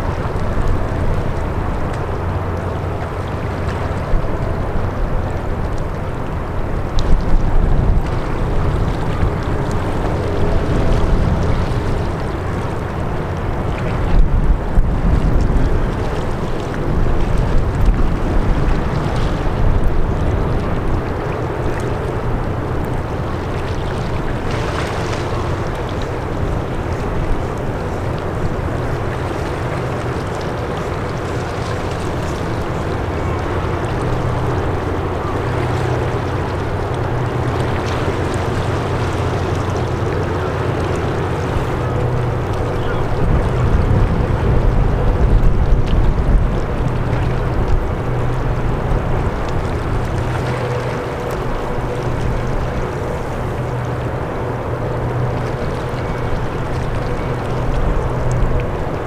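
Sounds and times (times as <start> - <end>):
large ship engines droning: 0.0 - 59.0
wind gusts on microphone: 0.0 - 59.0.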